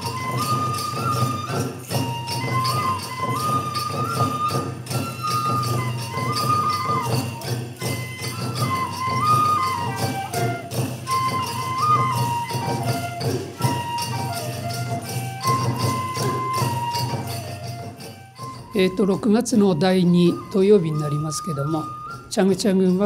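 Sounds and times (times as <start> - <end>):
drums: 0.0 - 23.0
flute melody: 0.0 - 23.0
jingling bells: 0.0 - 23.0.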